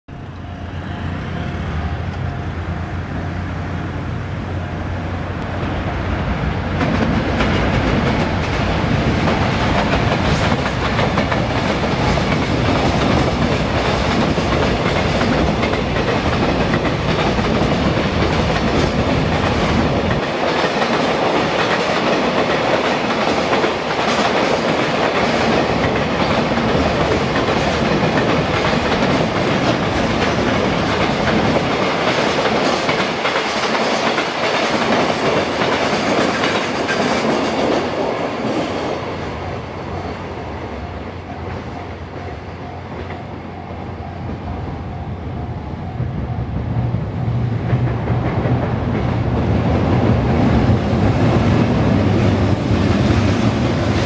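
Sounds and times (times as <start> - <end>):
freight train passing: 0.1 - 54.0.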